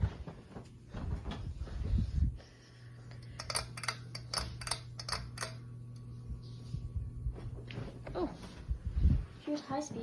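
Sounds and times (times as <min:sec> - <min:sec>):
ceiling fan motor humming: 0:00.0 - 0:10.0.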